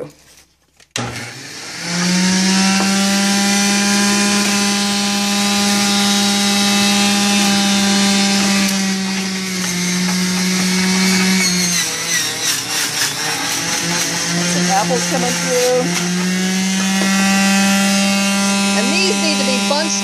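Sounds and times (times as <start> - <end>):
juicer motor humming: 1.0 - 20.0.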